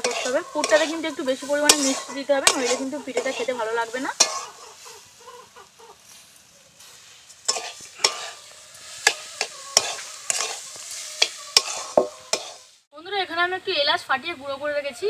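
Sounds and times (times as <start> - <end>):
spatula scraping pan: 0.0 - 12.8
faint sizzle: 0.0 - 15.0.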